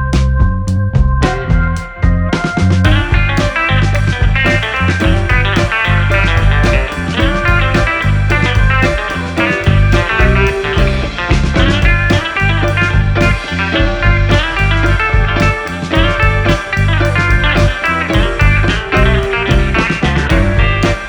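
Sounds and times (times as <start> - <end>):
blues-rock guitar music: 0.0 - 21.0.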